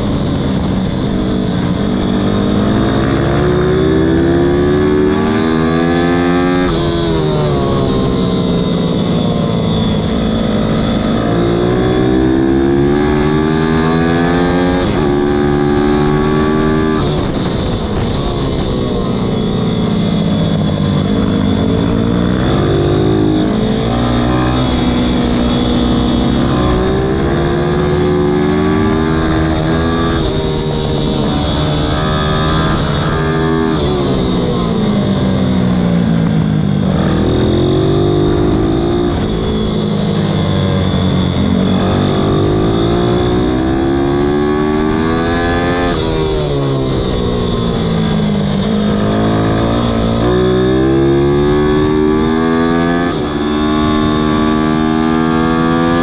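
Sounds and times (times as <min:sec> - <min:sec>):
wind rush: 0:00.0 - 0:55.6.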